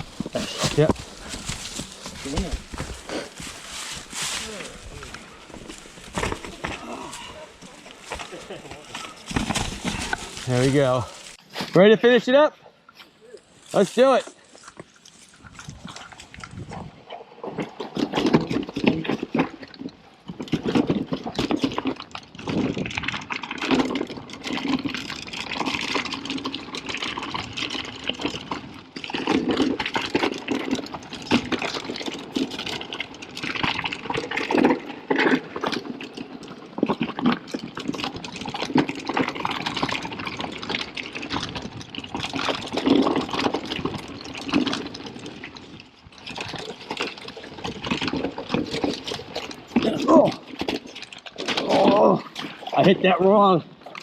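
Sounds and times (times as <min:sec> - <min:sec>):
bike tyres rolling over dirt: 0:00.0 - 0:12.2, 0:13.4 - 0:54.0.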